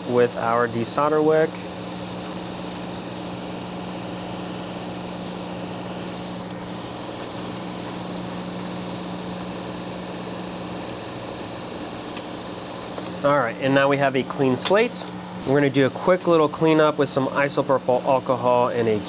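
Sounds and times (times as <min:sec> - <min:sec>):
electric blower fan whirring: 0:00.0 - 0:19.0.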